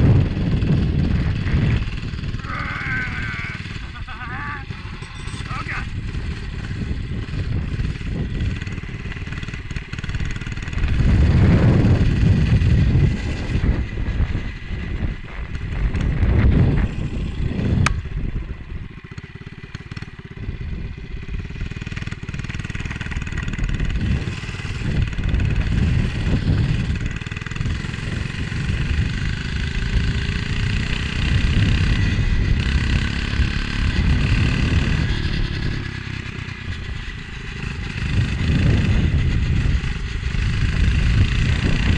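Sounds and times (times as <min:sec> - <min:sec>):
minibike engine running: 0:00.0 - 0:41.9
wind buffeting on microphone: 0:00.0 - 0:41.9.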